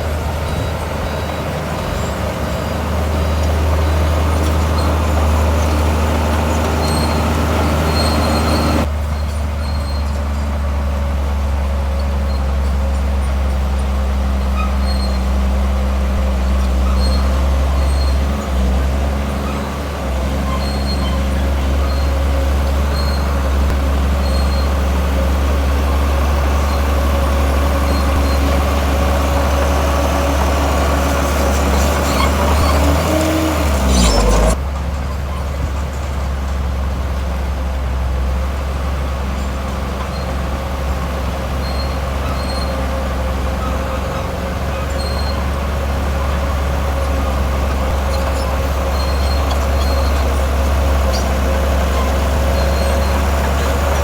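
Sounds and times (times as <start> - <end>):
diesel engine deep drone: 0.0 - 54.0.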